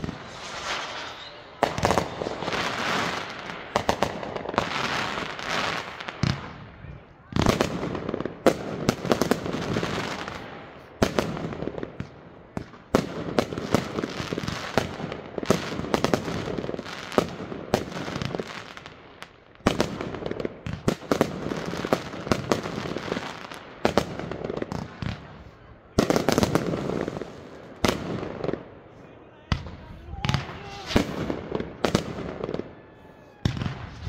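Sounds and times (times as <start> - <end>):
fireworks bursting: 0.0 - 34.0.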